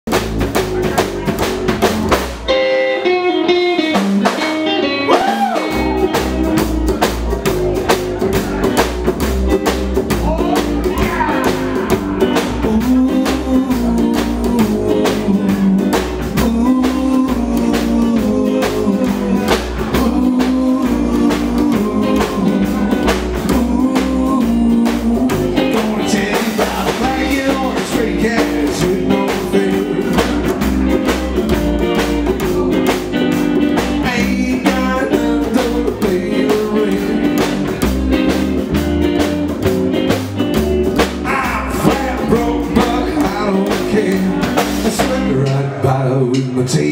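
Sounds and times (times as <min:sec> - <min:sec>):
upright double bass: 0:00.0 - 0:02.7, 0:03.4 - 0:46.9
drum kit: 0:00.0 - 0:46.9
electric guitar: 0:00.1 - 0:46.9.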